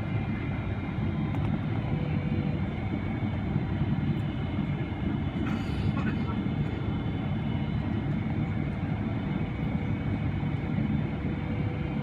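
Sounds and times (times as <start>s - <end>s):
aircraft cabin engine rumble: 0.0s - 12.0s
faint steady whine: 0.0s - 12.0s.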